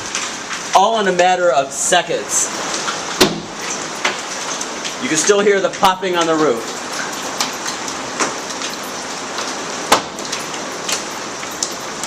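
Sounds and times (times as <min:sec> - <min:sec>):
hail and rain on a roof: 0:00.0 - 0:12.0.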